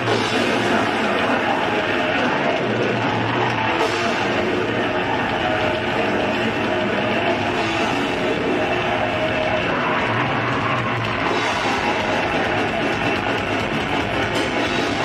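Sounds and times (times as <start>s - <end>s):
metal band playing: 0.0s - 15.0s.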